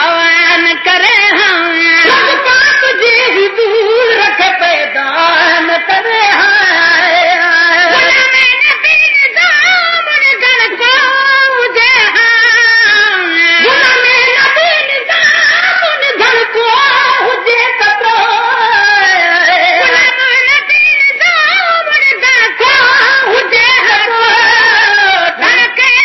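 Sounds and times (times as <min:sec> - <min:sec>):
person singing devotional song: 0:00.0 - 0:26.0.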